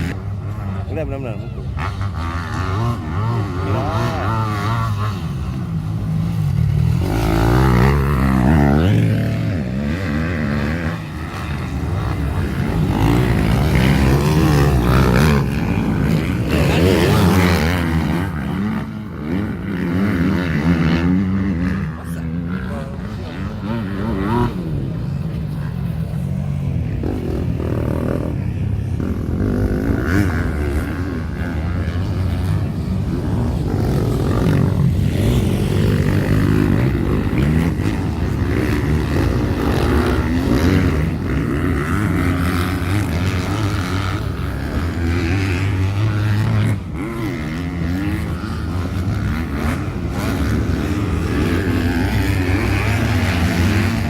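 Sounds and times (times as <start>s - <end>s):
racing motorcycle engines running: 0.0s - 54.0s.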